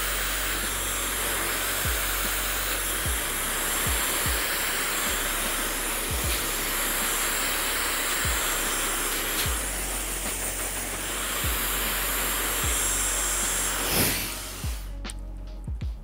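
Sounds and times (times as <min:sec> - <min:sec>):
hair dryer blowing: 0:00.0 - 0:15.1
music beat thumping: 0:00.0 - 0:16.0.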